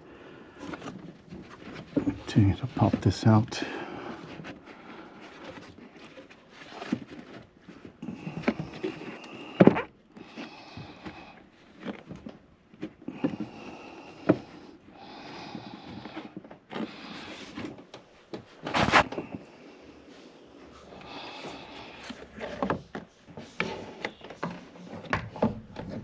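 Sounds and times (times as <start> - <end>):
plastic scraping and rustling: 0.5 - 26.0.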